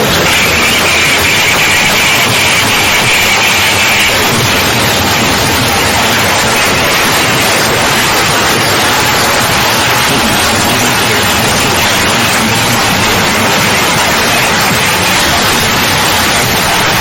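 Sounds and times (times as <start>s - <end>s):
loud steady rushing noise: 0.0s - 17.0s.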